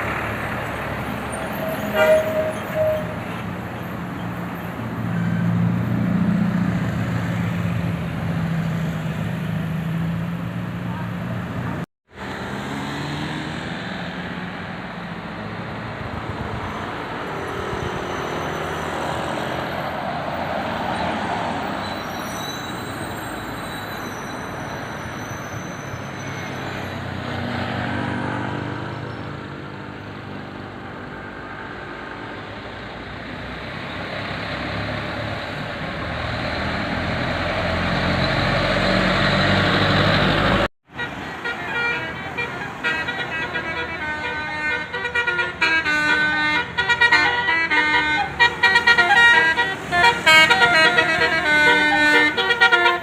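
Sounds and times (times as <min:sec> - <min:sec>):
buses passing: 0:00.0 - 0:53.0.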